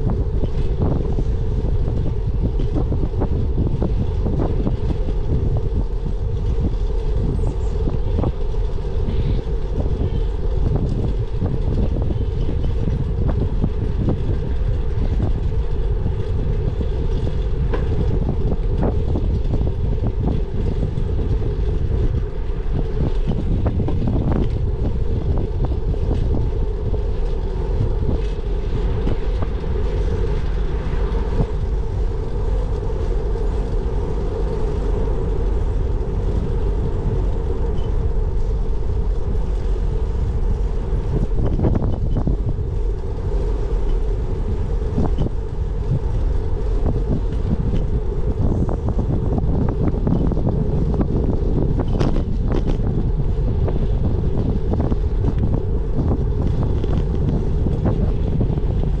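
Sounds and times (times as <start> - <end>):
bicycle road noise: 0.0 - 59.0
steady hum: 0.0 - 59.0
wind buffeting microphone: 0.0 - 59.0.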